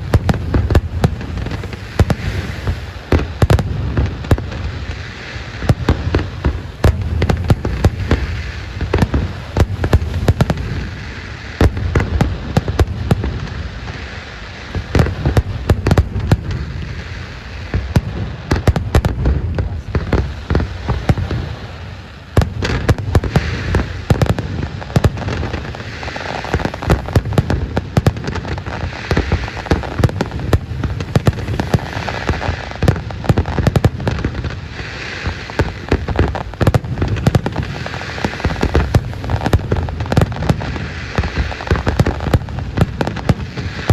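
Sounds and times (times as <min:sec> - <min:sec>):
fireworks bangs and pops: 0:00.0 - 0:43.9.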